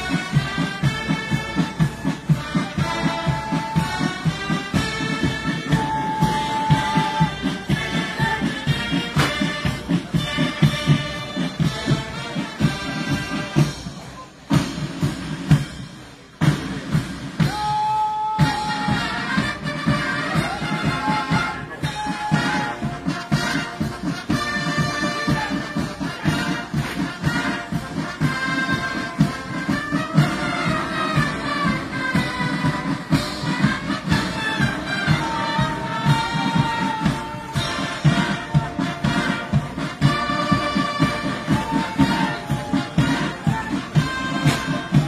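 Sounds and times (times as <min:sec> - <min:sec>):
brass band playing a march: 0:00.0 - 0:45.0.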